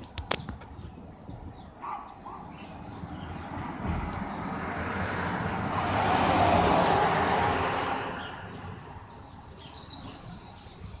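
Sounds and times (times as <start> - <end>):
street background: 0.0 - 11.0
car passing: 1.8 - 10.8.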